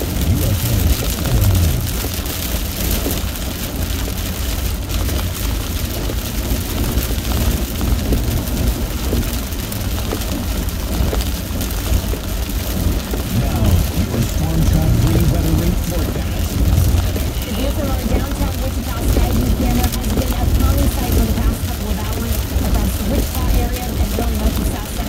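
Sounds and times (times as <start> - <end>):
heavy rain on car roof: 0.0 - 25.0
tyres rumbling on wet road: 0.0 - 25.0.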